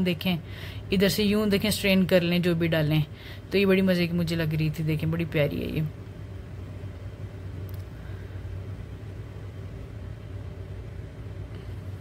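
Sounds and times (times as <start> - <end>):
shop background hum and rumble: 0.0 - 12.0.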